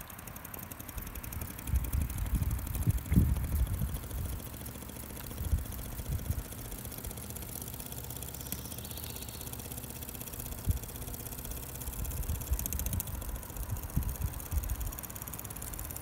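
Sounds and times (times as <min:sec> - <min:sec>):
toy steam engine chuffing: 0:00.0 - 0:16.0.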